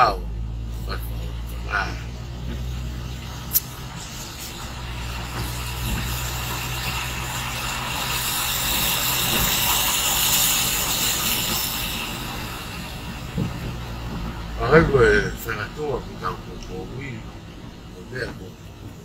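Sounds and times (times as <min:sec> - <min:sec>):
car engine and road hum: 0:00.0 - 0:19.0
rushing hiss: 0:00.9 - 0:19.0.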